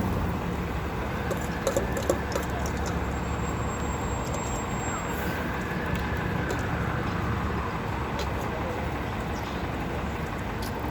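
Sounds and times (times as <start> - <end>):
city street traffic: 0.0 - 10.9.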